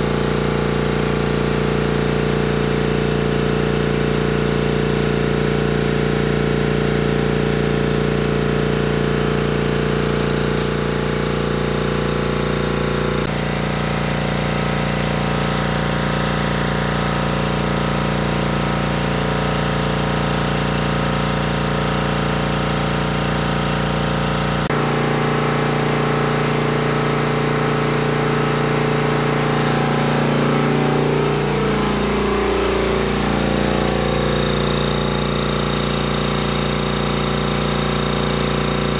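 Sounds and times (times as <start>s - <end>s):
air compressor pounding hum: 0.0s - 38.9s.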